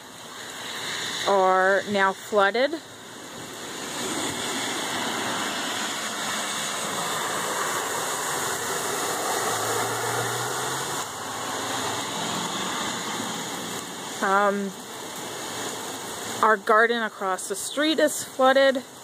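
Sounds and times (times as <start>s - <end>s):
flood water rushing: 0.0s - 19.0s
heavy rain: 0.0s - 19.0s.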